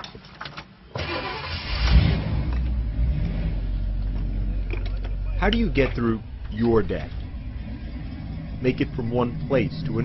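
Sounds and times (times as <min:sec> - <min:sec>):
car engine starting and idling: 0:00.9 - 0:10.0.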